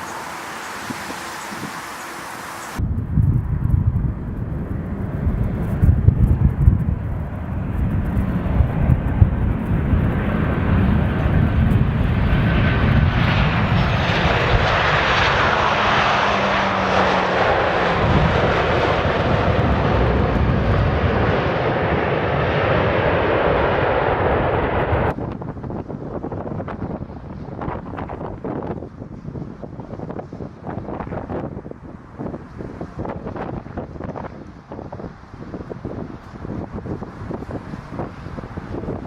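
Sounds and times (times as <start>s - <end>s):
jet airliner engines rushing: 0.0s - 39.0s.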